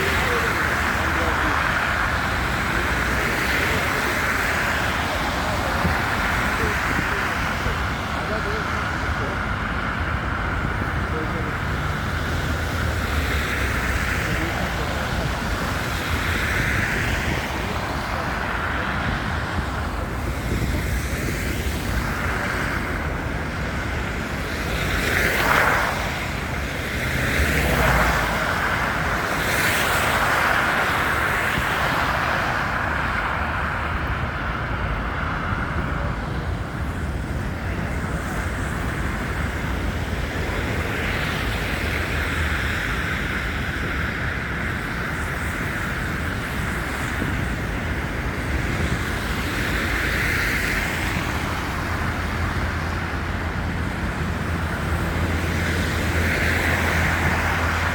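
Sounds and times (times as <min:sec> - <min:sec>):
city traffic noise: 0:00.0 - 0:57.9
vehicles passing: 0:00.0 - 0:57.9.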